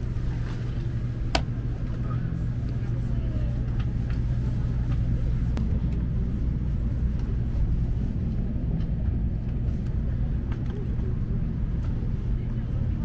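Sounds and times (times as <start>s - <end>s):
train cabin low rumble: 0.0s - 13.0s.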